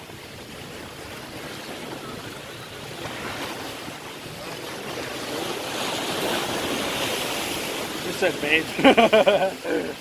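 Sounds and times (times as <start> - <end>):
wind on microphone: 0.0 - 8.1
surf washing against rocks: 0.0 - 10.0.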